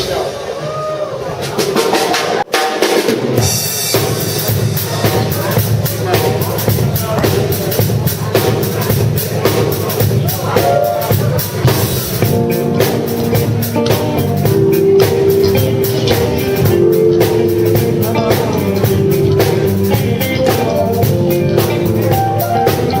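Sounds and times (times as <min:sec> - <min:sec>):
band playing blues rock: 0:01.6 - 0:23.0.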